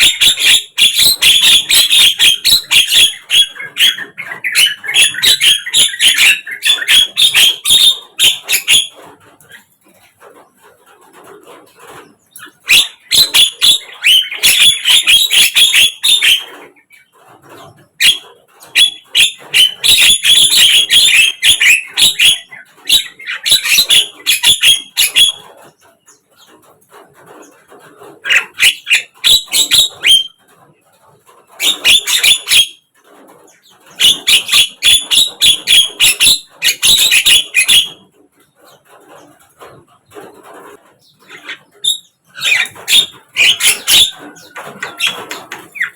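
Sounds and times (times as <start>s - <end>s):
birds chattering harshly: 0.0s - 45.9s.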